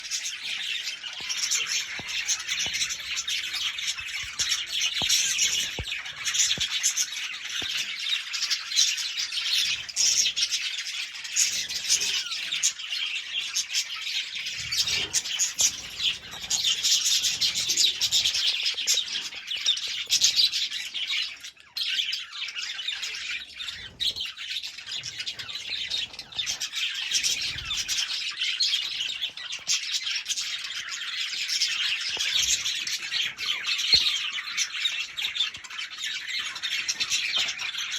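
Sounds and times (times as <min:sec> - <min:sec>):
budgerigars chattering and chirping: 0:00.0 - 0:37.9.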